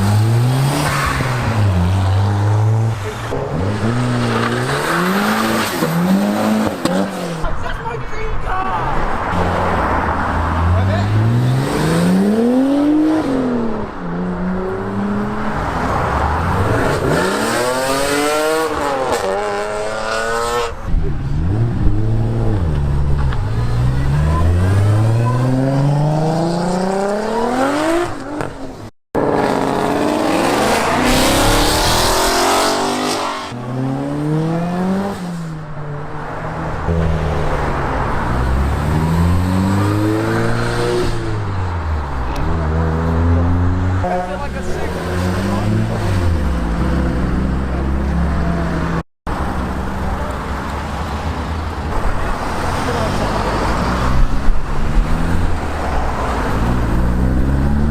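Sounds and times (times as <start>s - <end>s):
car engines accelerating hard: 0.0s - 7.6s, 8.9s - 57.9s.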